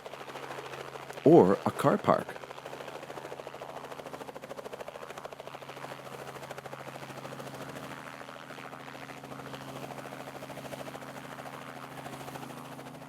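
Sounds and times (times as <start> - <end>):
helicopter engine hum: 2.2 - 13.0.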